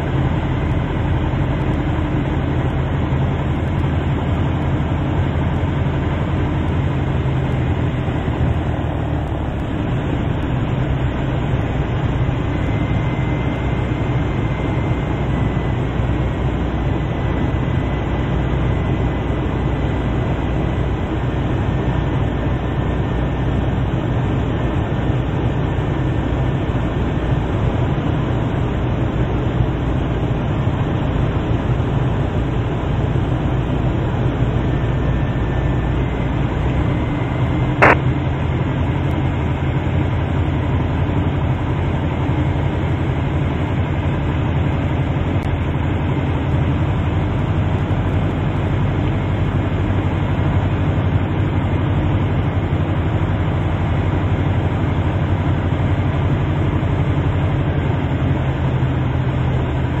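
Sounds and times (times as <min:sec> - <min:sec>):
aircraft piston engine running: 0:00.0 - 1:00.0.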